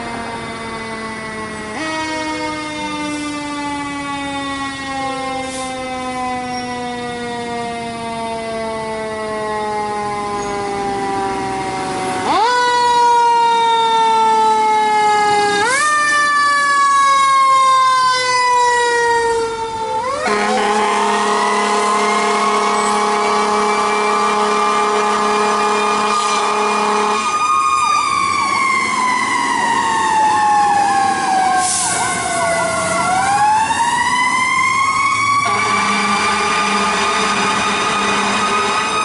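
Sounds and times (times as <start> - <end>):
fire engine siren wailing: 0.0 - 39.0.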